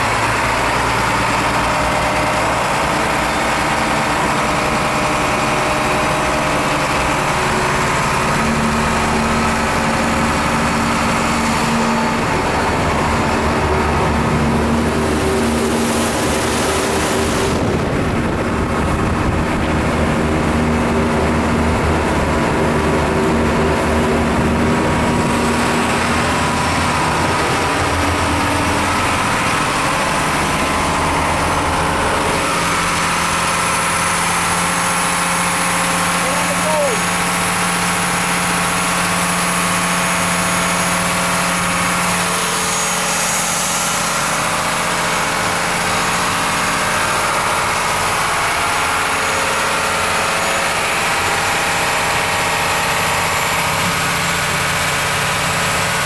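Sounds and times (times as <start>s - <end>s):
boat engine running: 0.0s - 56.0s
water rushing from hull: 0.0s - 56.0s.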